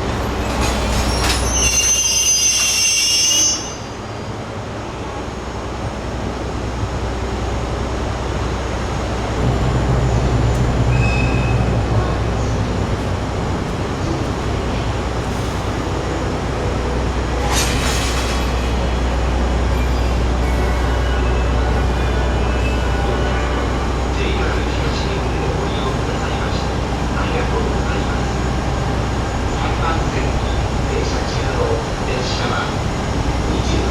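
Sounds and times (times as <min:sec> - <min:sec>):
train running hum: 0:00.0 - 0:33.9.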